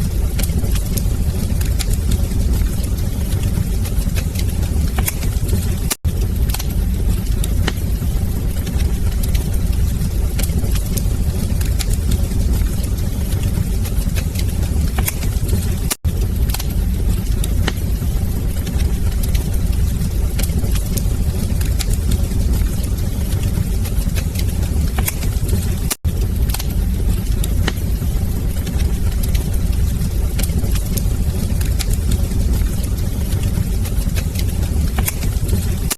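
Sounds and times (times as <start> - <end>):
fire crackling and popping: 0.0 - 35.9
fire roaring in a fireplace: 0.0 - 35.9.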